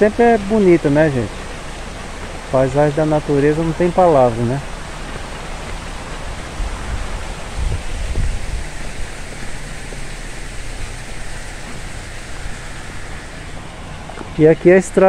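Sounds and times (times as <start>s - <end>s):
creek water running over rocks: 0.0s - 15.0s
low rumble: 1.5s - 14.2s.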